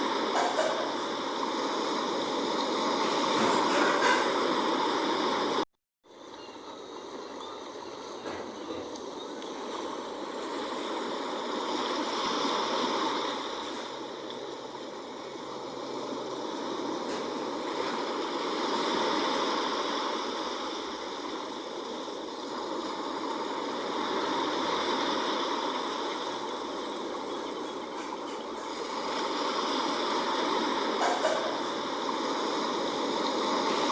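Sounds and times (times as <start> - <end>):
sea waves washing in: 0.0 - 33.9.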